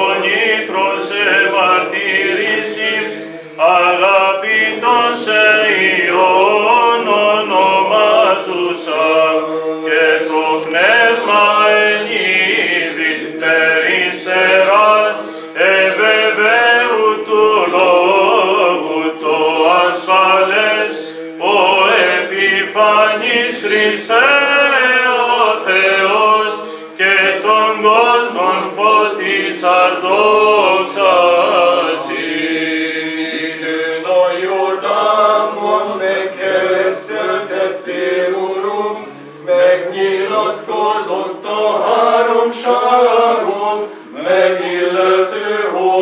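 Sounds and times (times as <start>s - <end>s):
voices chanting: 0.0s - 46.0s.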